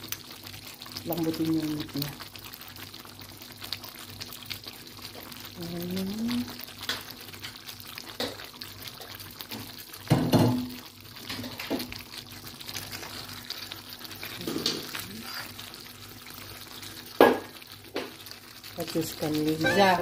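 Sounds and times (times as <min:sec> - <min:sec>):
sauce bubbling in a frying pan: 0:00.0 - 0:20.0.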